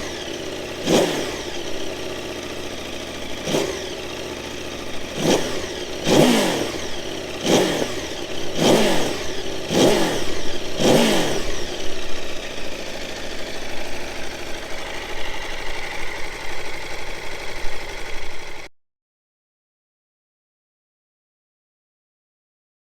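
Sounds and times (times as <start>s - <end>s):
motorcycle engine idling: 0.0s - 18.7s
motorcycle engine revving: 0.0s - 18.7s.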